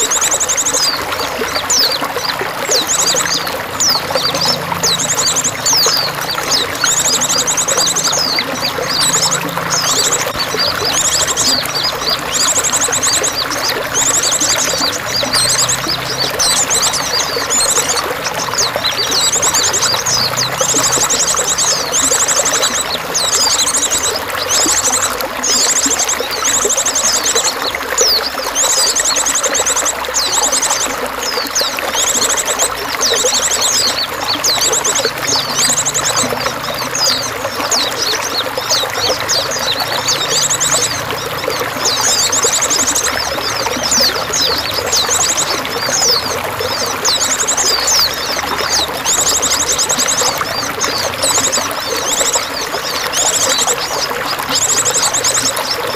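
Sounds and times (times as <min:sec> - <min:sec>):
running splashing water: 0:00.0 - 0:55.9
small birds chirping and trilling: 0:00.0 - 0:55.9.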